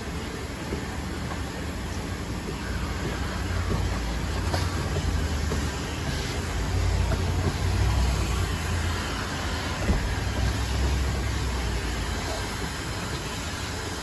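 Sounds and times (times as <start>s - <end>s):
machine drone with hiss: 0.0s - 14.0s.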